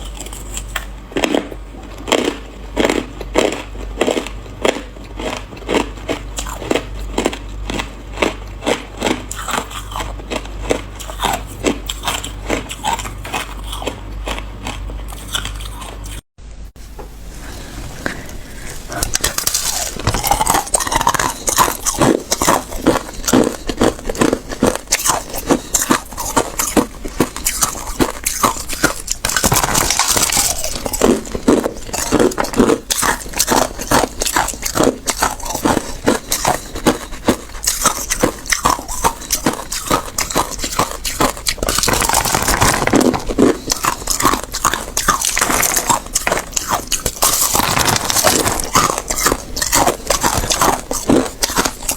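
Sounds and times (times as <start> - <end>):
crunching ice in the mouth: 0.0 - 16.2, 19.0 - 51.9.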